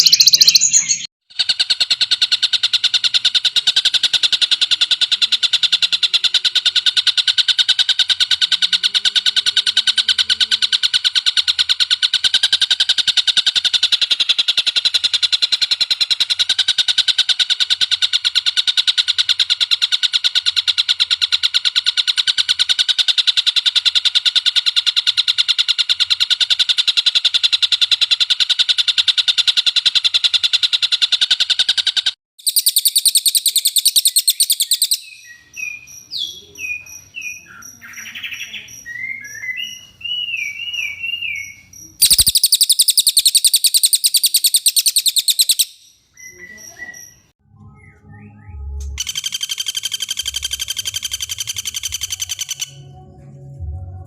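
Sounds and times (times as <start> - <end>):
bird chirps: 0.0 - 27.5, 28.2 - 53.0
songbird rapid trill: 0.0 - 47.3, 48.9 - 52.9.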